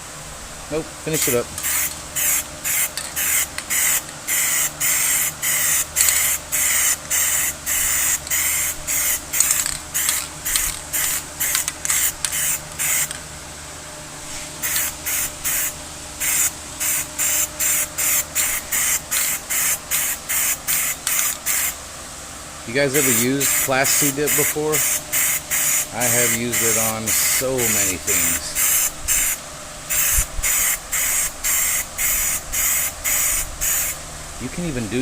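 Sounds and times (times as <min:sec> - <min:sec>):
aerosol can spraying bursts: 0:01.2 - 0:13.2, 0:14.3 - 0:21.8, 0:22.9 - 0:34.0.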